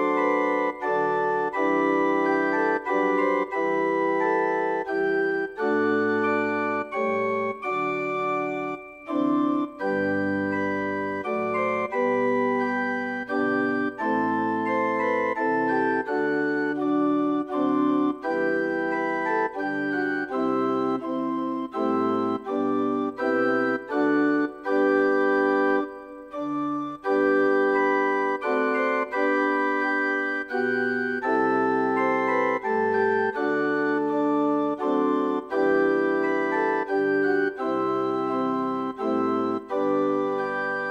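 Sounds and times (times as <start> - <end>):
church organ playing a hymn: 0.0 - 40.9.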